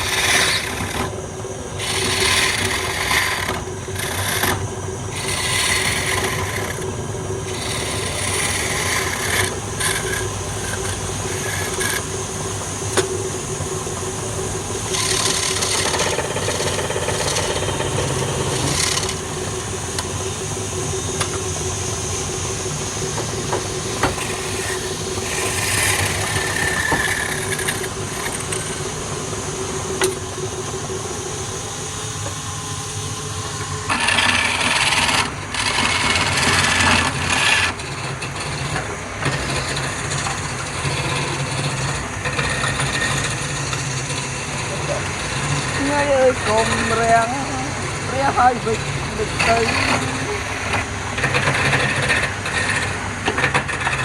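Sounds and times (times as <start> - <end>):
lathe motor hum: 0.0 - 54.0
tool cutting spinning wood: 0.0 - 54.0.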